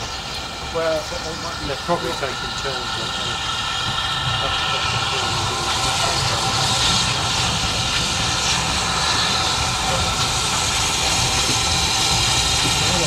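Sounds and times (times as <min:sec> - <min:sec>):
steam hissing: 0:00.0 - 0:13.0
steam locomotive rumble: 0:00.0 - 0:13.0.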